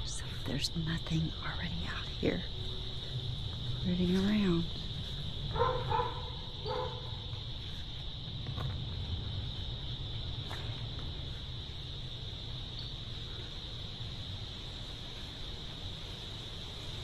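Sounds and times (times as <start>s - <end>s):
low rumble: 0.0s - 14.2s
crickets trilling: 0.0s - 17.0s.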